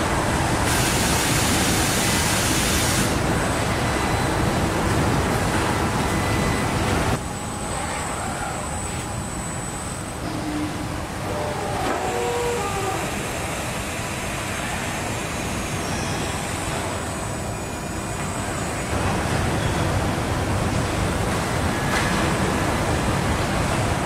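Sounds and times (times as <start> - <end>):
machine rumble and hiss: 0.0 - 24.0.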